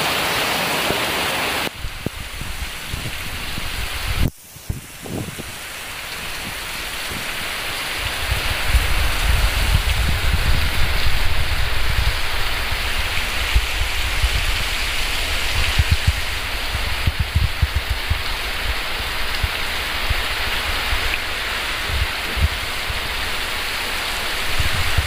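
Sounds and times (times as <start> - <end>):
heavy rain on road and trees: 0.0 - 25.0
wind rumbling on microphone: 1.7 - 25.0.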